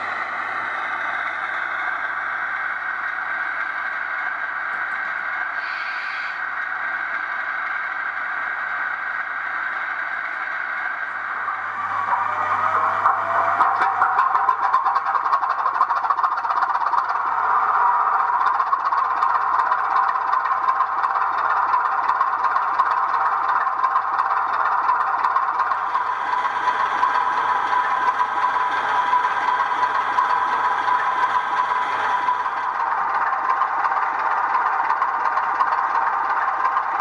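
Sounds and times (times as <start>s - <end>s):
model diesel engine sound: 0.0s - 37.0s
wheels rattling over track: 6.5s - 37.0s.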